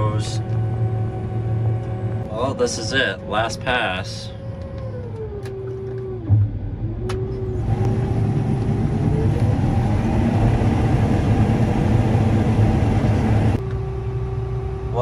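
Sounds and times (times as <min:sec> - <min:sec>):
harvester engine hum: 0:00.0 - 0:15.0
machine whine: 0:00.0 - 0:15.0.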